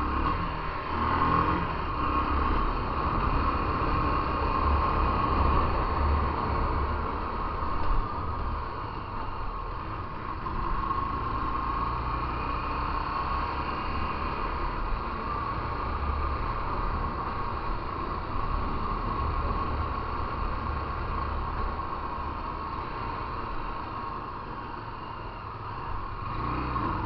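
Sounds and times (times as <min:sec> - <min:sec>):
motorcycle engine and road noise: 0:00.0 - 0:27.0.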